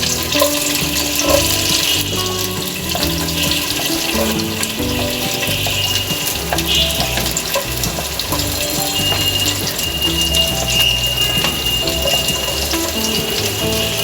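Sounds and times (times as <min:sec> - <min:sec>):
background music: 0:00.0 - 0:14.0
onion frying in a pan: 0:00.0 - 0:14.0.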